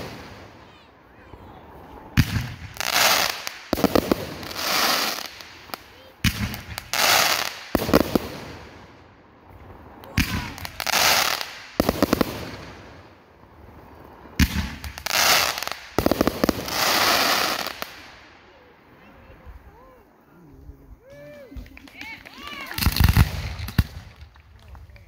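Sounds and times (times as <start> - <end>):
crackling hiss of fireworks: 0.0 - 25.0
fireworks bursting: 0.0 - 25.0.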